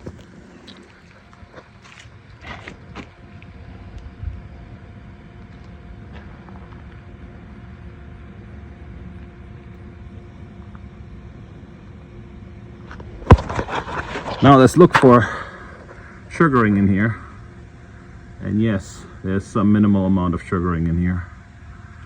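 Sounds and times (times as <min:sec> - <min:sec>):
faint steady hum: 0:00.0 - 0:22.0
low outdoor rumble: 0:00.0 - 0:22.0.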